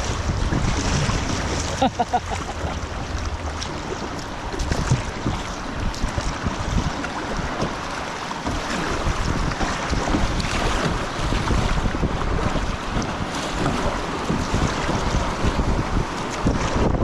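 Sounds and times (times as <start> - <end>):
river water rushing and splashing: 0.0 - 17.0
wind buffeting microphone: 0.0 - 17.0.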